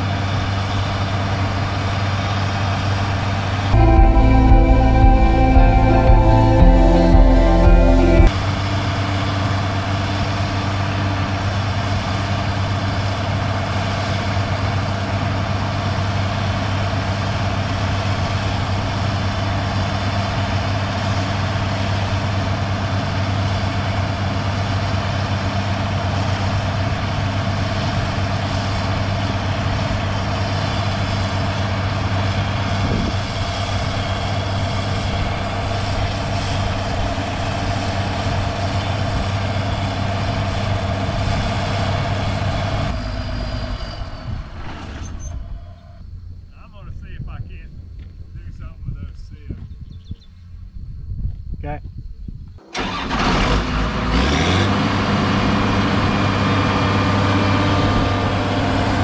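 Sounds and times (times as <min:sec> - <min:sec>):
diesel machinery engine hum: 0:00.0 - 0:44.6, 0:52.7 - 0:59.0.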